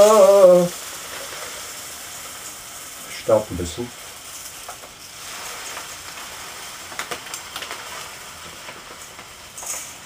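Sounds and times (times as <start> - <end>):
sand poured over stones: 0.0 - 10.0.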